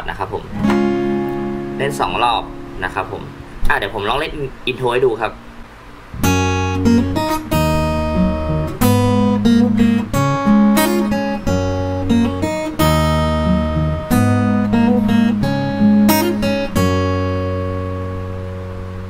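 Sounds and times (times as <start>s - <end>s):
fingerpicked acoustic guitar: 0.4s - 4.6s, 5.4s - 19.0s.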